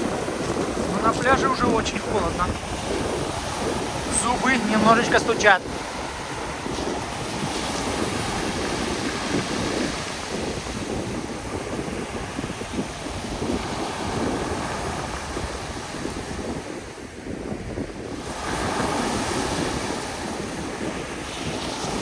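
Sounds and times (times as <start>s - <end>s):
surf washing onto beach: 0.0s - 22.0s
wind buffeting microphone: 0.0s - 22.0s.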